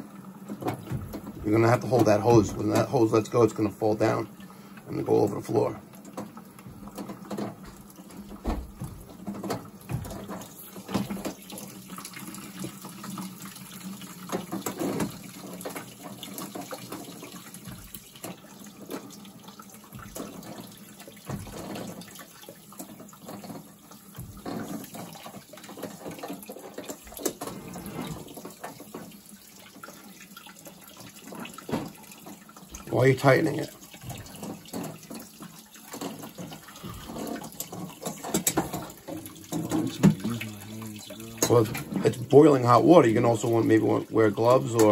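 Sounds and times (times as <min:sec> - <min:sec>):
water running into plastic bucket: 0:00.0 - 0:44.9.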